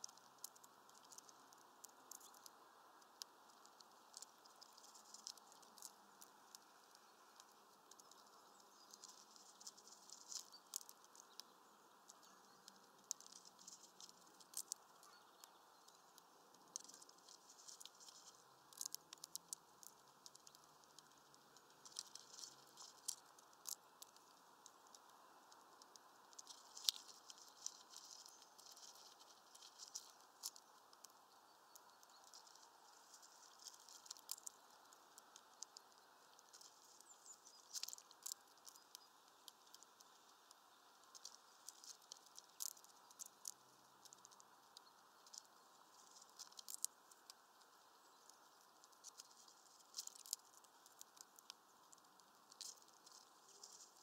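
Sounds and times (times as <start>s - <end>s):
faint steady hiss: 0.0s - 54.0s
squirrel cracking seeds: 0.0s - 54.0s.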